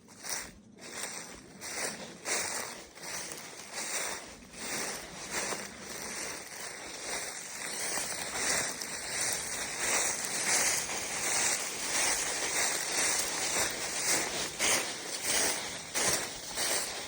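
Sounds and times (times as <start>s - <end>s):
footsteps outdoors: 0.0s - 17.0s
rustling noise: 0.0s - 17.0s.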